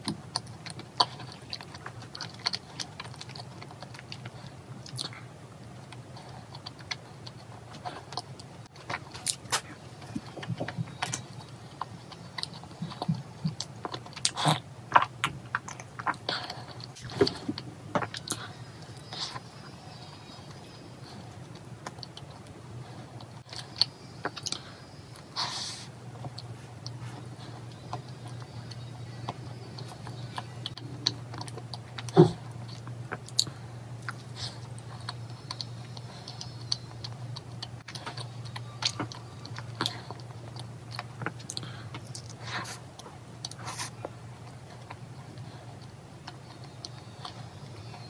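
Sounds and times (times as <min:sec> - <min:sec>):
chewing soft cookie: 0:00.0 - 0:48.0
steady low hum: 0:00.0 - 0:48.0.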